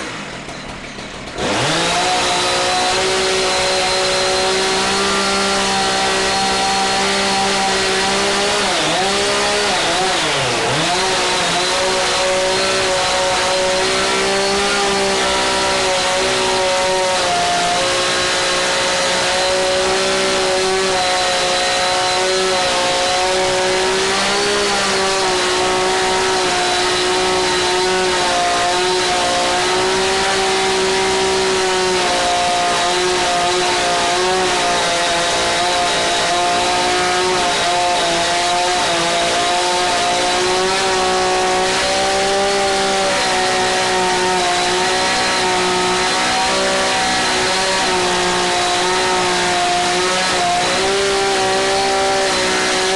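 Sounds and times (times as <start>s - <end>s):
chainsaw running at high revs: 0.0s - 52.9s.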